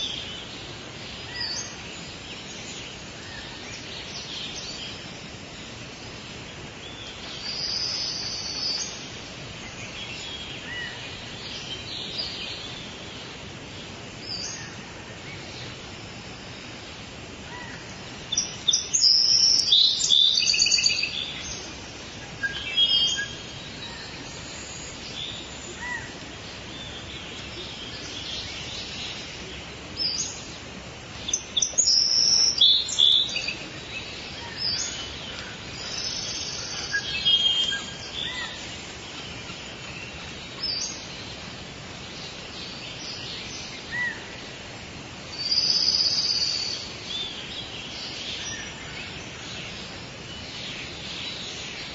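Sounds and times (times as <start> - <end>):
birds chirping and trilling: 0.0 - 51.9
steady background hiss: 0.0 - 51.9.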